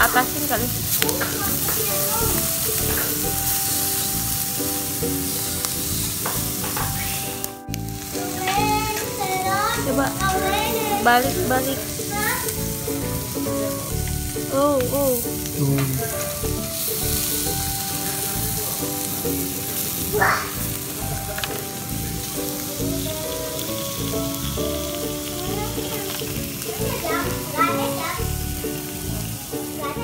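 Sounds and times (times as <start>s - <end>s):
seafood sizzling on grill pan: 0.0s - 30.0s.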